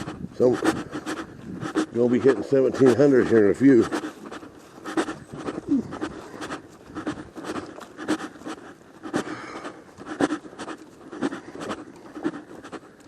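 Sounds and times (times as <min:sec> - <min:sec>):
footsteps crunching on trail: 0:00.0 - 0:13.0.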